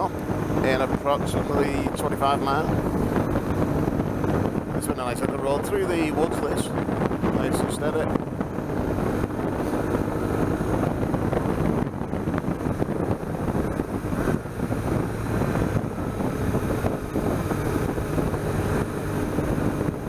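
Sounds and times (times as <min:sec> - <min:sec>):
motorcycle engine cruising: 0:00.0 - 0:20.0
wind rushing over microphone: 0:00.0 - 0:20.0.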